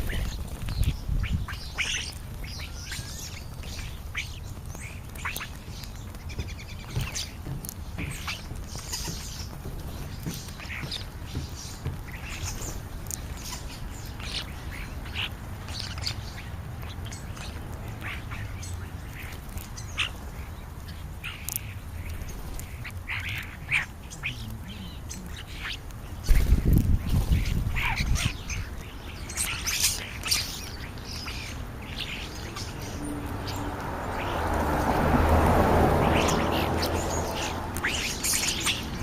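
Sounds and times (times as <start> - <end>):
starlings chattering: 0.0 - 39.0.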